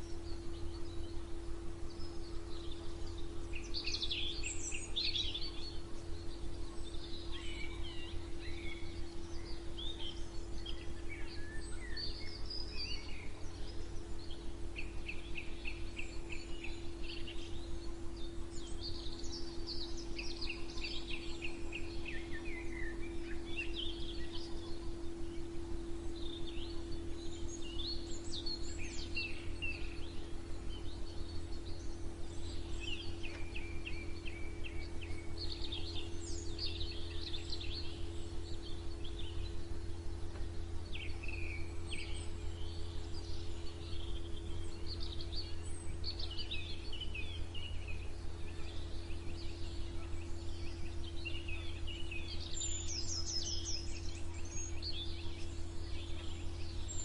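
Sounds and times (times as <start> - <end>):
songbirds chirping and trilling: 0.0 - 57.0
steady low hum: 0.0 - 57.0.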